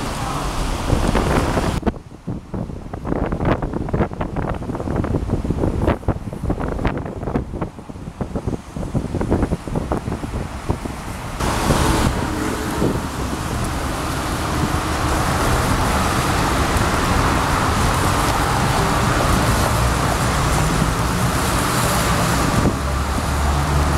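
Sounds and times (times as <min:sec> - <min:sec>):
cars passing on wet road: 0:00.0 - 0:23.9
wind buffeting microphone: 0:00.0 - 0:23.9.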